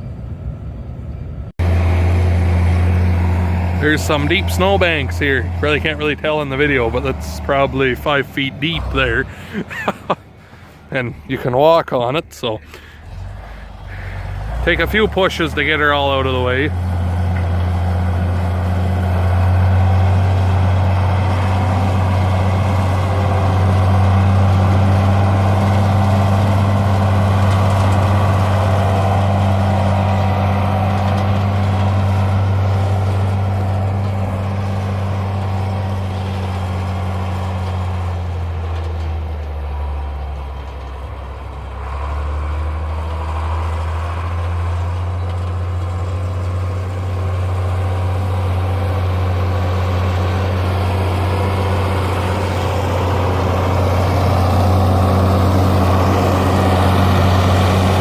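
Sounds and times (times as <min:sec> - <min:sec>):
heavy vehicle engine running: 0:00.0 - 0:58.0.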